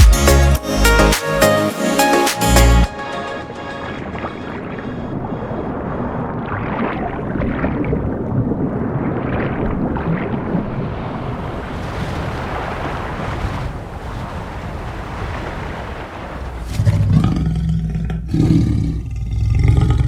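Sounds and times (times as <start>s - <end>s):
ocean waves breaking: 0.6s - 17.2s.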